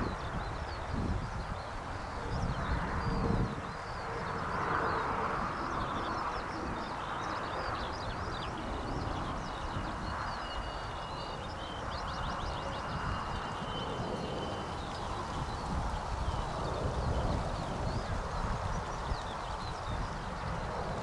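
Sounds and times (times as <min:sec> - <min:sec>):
low rush of outdoor noise: 0:00.0 - 0:21.0
songbirds chirping and twittering: 0:00.0 - 0:21.0.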